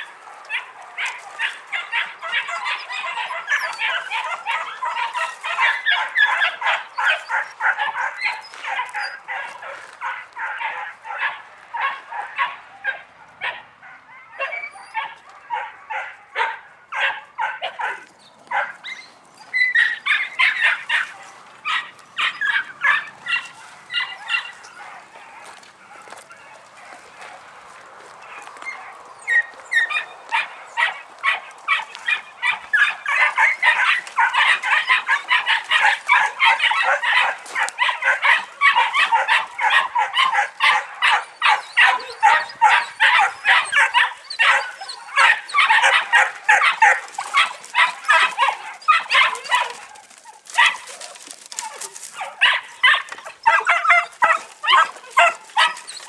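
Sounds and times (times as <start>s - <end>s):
puppies yelping and barking: 0.0s - 56.0s.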